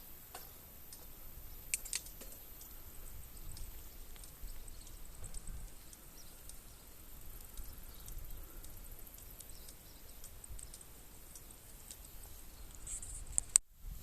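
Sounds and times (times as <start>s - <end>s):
low wind rumble: 1.1s - 14.0s
faint clicks and ticks: 1.7s - 13.7s.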